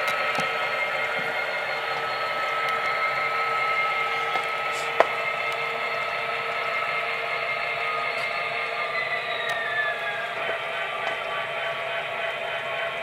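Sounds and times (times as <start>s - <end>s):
model locomotive engine drone: 0.0s - 13.0s.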